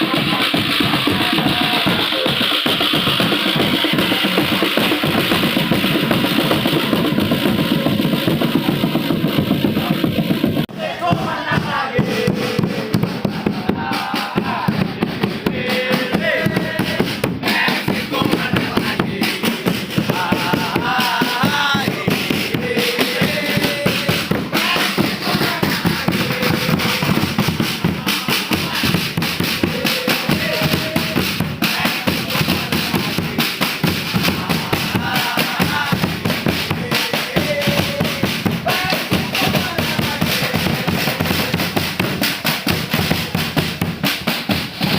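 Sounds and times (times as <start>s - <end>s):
bass and snare drumming: 0.0s - 44.9s
crowd singing a chant: 0.0s - 44.9s.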